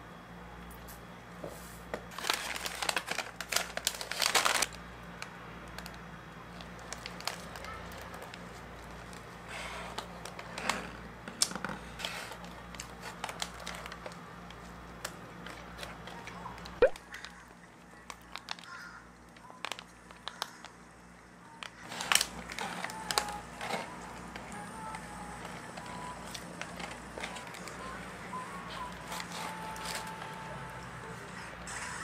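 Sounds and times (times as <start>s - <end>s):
packaging crinkling: 2.1s - 6.0s, 6.6s - 20.8s, 21.5s - 30.7s.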